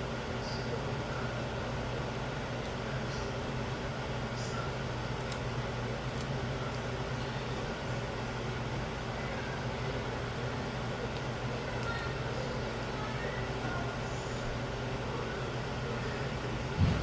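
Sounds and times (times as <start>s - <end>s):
fan hum and hiss: 0.0s - 17.0s.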